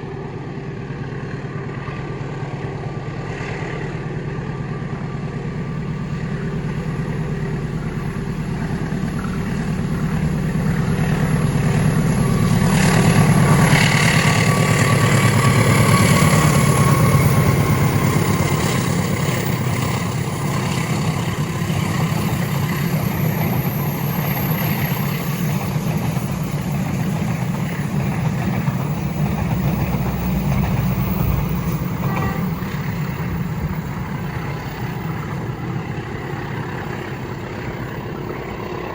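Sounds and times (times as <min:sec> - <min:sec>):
train rumbling past: 0:00.0 - 0:38.9.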